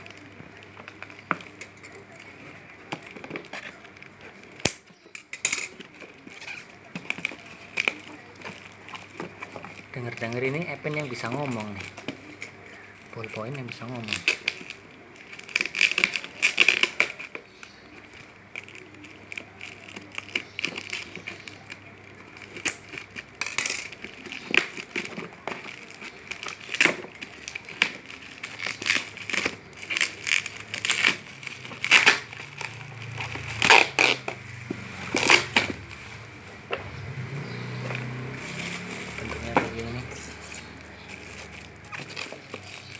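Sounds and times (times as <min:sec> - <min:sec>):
plastic packaging crinkling and tearing: 0:00.0 - 0:42.9.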